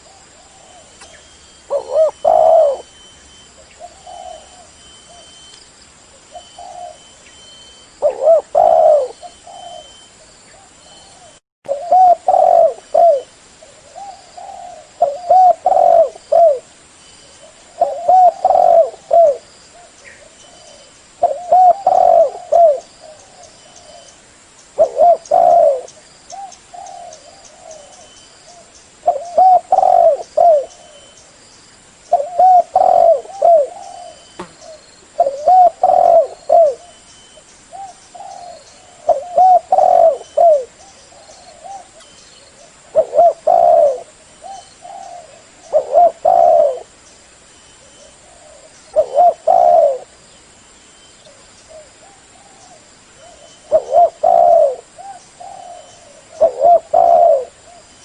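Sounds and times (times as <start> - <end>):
dove cooing: 0.0 - 5.4, 6.2 - 16.7, 17.3 - 24.1, 24.8 - 31.2, 32.1 - 37.0, 37.7 - 46.9, 47.8 - 50.1, 51.2 - 58.0.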